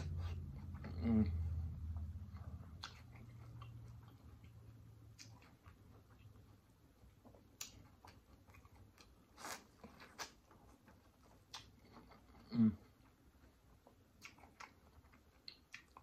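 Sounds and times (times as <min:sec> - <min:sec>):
mouth clicks of chewing food: 0:02.2 - 0:16.0.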